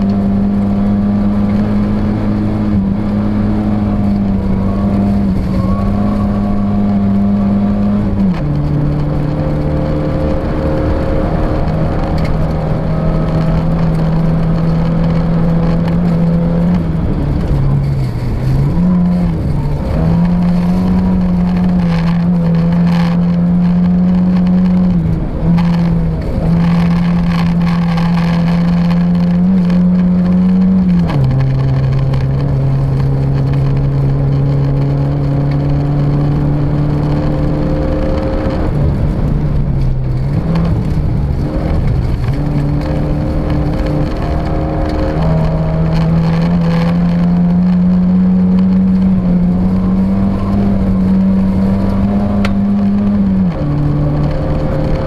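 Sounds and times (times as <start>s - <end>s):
rally car engine revving: 0.0s - 55.0s
road noise: 0.0s - 55.0s.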